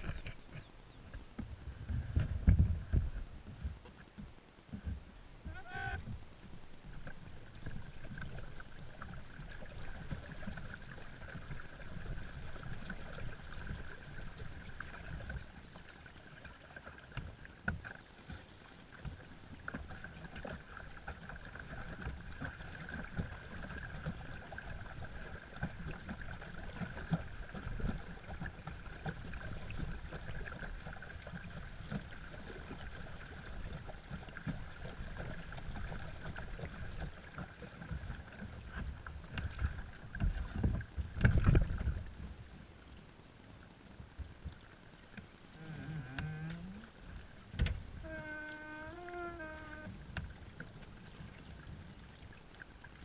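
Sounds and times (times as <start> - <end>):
paddlewheel splashing water: 0.0 - 53.0.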